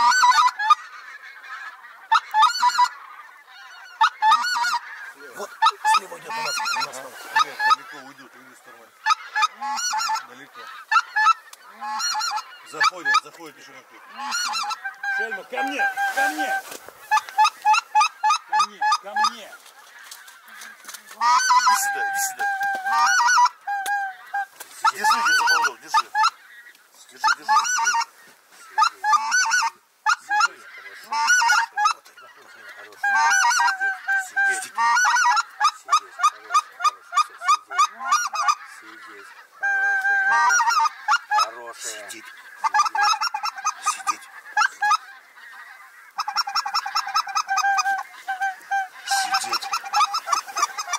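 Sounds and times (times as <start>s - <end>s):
goose calls honking: 0.0s - 50.9s.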